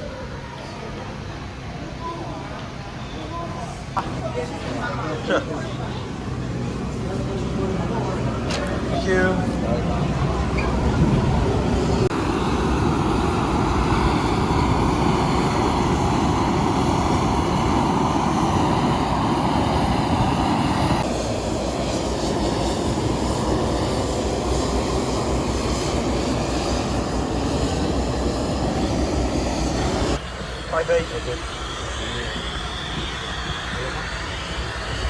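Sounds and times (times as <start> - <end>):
turboprop engine roaring: 3.7 - 35.0.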